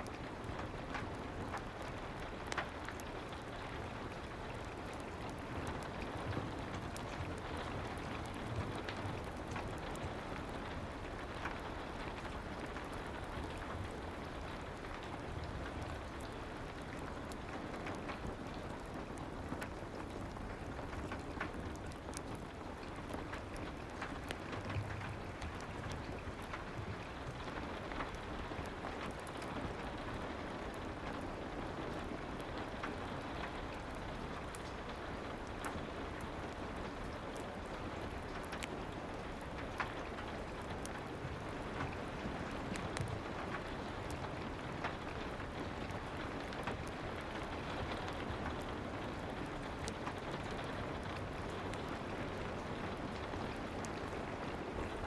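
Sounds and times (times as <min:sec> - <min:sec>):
fireplace crackling: 0:00.0 - 0:55.0
soft rain: 0:00.0 - 0:55.0.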